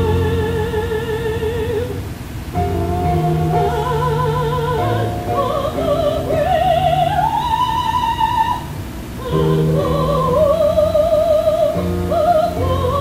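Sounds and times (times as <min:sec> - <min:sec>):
operatic voice singing with vibrato: 0:00.0 - 0:13.0
instrumental accompaniment: 0:02.5 - 0:13.0.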